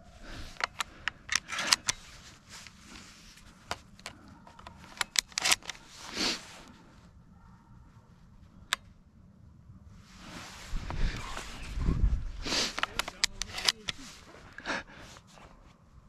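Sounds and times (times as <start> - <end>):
clothing and gear rustling: 0.2 - 7.1, 10.0 - 16.0.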